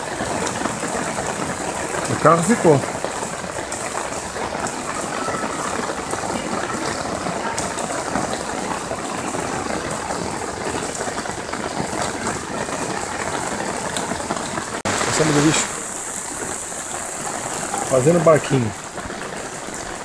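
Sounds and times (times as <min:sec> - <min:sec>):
heavy rain: 0:00.0 - 0:20.0
rushing floodwater: 0:00.0 - 0:20.0.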